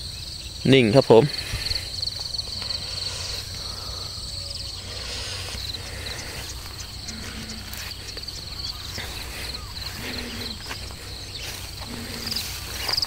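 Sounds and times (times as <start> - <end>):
insects chirping in a high trill: 0.0 - 13.0.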